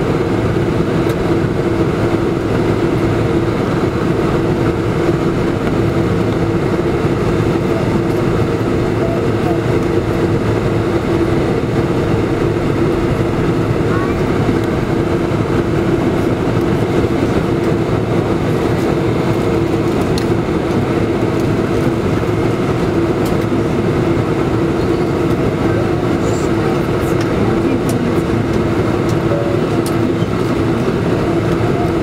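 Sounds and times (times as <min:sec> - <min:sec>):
jet engine cabin drone: 0:00.0 - 0:32.0.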